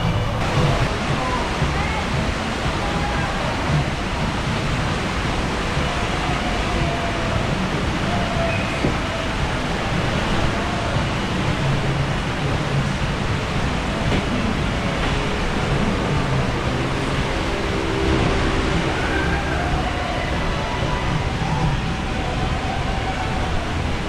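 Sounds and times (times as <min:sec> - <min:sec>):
faint distant voices: 0:00.0 - 0:24.0
water rushing through slide: 0:00.0 - 0:24.0
wind: 0:00.0 - 0:24.0.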